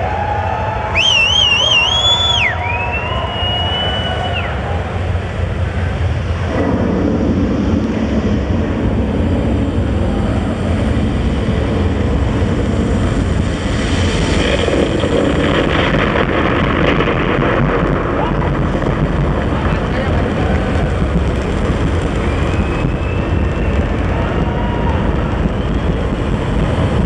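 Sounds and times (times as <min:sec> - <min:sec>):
arena crowd noise rumbling: 0:00.0 - 0:27.0.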